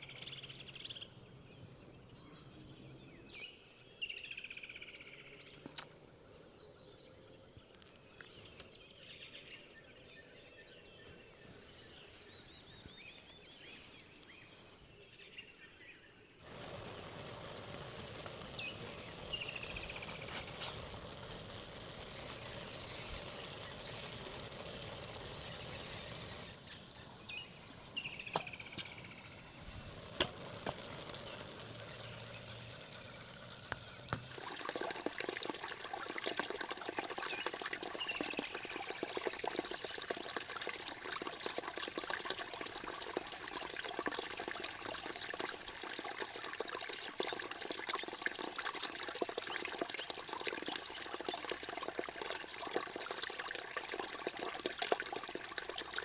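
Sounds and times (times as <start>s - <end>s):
birds chirping: 0.0s - 41.2s, 46.9s - 51.3s
outdoor background hiss: 0.0s - 56.0s.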